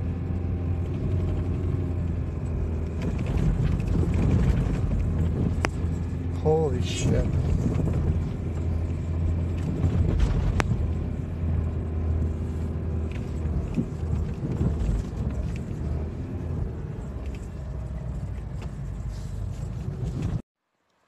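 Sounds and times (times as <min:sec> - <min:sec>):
car driving on snow: 0:00.0 - 0:20.4.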